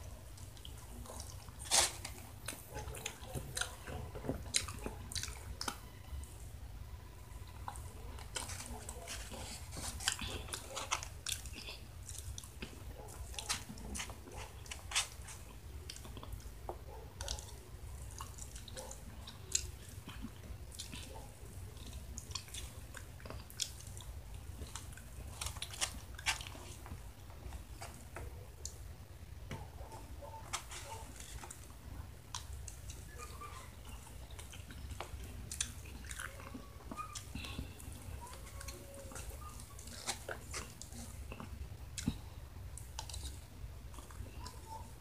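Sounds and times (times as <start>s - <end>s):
person chewing food: 0.0s - 6.3s, 7.2s - 45.0s.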